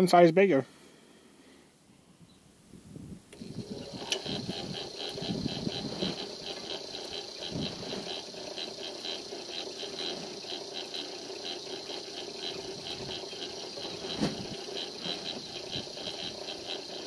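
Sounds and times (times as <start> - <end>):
drill press motor hum: 3.3 - 17.0.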